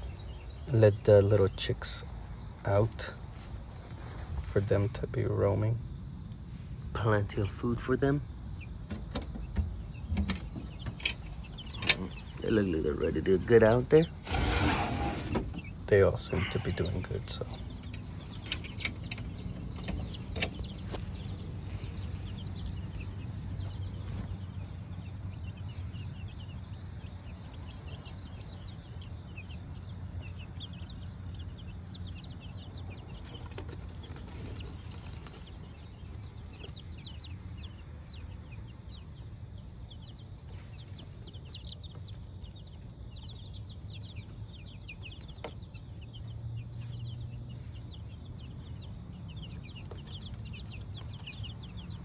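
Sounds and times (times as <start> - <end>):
chicks peeping: 0.0 - 52.0.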